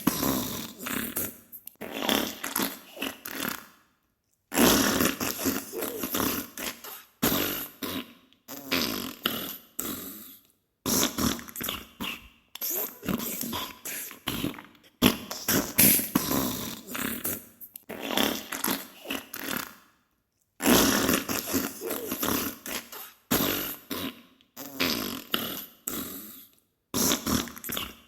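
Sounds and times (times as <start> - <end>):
sputtering fart bursts: 0.0 - 3.7, 4.5 - 10.0, 10.9 - 19.8, 20.6 - 26.2, 27.0 - 28.0.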